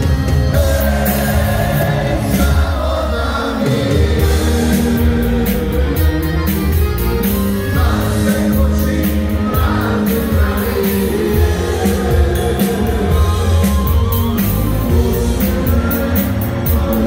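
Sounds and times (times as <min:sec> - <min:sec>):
accordion: 0:00.0 - 0:17.0
keyboard: 0:00.0 - 0:17.0
live band playing folk-pop: 0:00.0 - 0:17.0.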